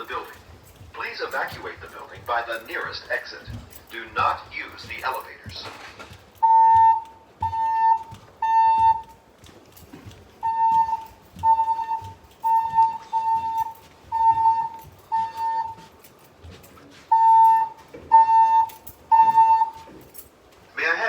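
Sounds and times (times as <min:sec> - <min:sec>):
fire alarm beeping: 0:00.0 - 0:09.2, 0:10.4 - 0:16.2, 0:17.0 - 0:21.0.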